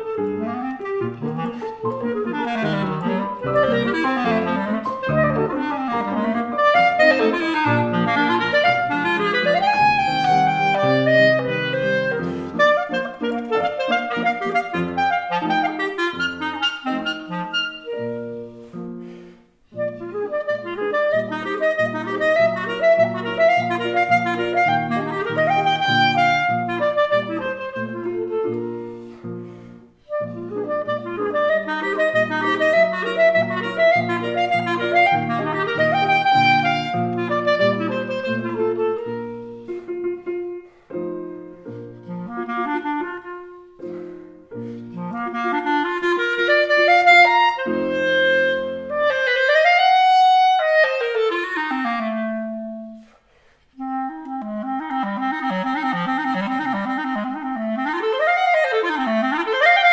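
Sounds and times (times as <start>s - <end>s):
piano chords: 0.0s - 53.0s
clarinet: 0.0s - 59.9s.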